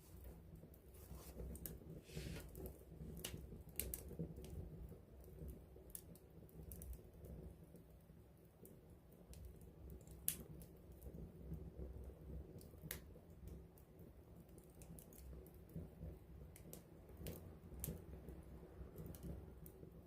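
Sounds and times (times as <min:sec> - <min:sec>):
low rumble of flames: 0:00.0 - 0:20.0
campfire crackling and popping: 0:00.2 - 0:20.0.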